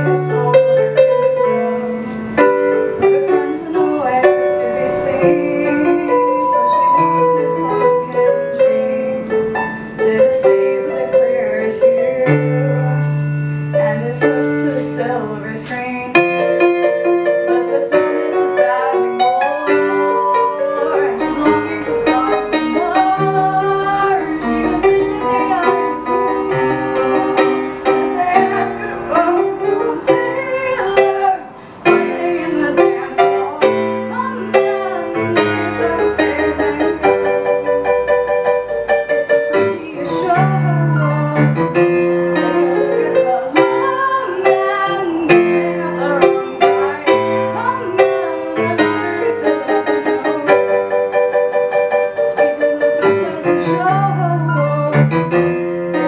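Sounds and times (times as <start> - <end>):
girl singing: 0.0 - 1.6, 2.6 - 37.7, 39.0 - 51.2, 52.4 - 55.3
digital piano chords and melody: 0.0 - 56.0.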